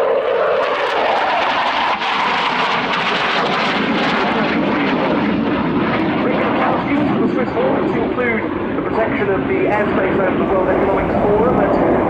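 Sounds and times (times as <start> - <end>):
fighter jet flying past: 0.0 - 12.0.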